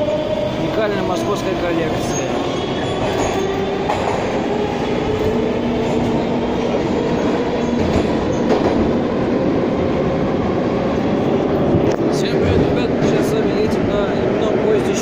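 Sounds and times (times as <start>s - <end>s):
metro train wheels rumbling: 0.0s - 15.0s.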